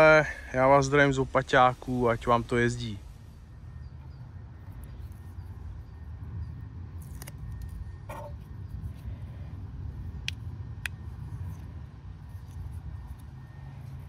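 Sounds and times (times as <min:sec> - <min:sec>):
low rumble: 0:00.0 - 0:12.4.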